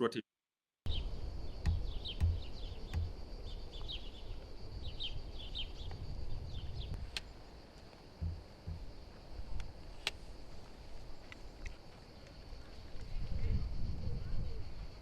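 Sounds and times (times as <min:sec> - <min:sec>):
small birds chirping: 0:00.9 - 0:13.2
high insect buzz: 0:00.9 - 0:14.9.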